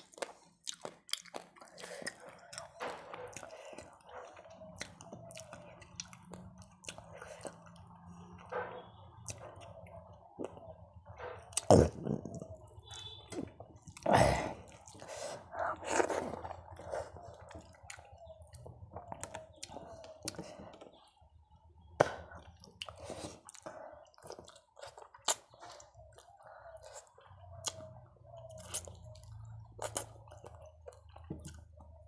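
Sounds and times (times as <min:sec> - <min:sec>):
person chewing food: 0:00.0 - 0:32.0.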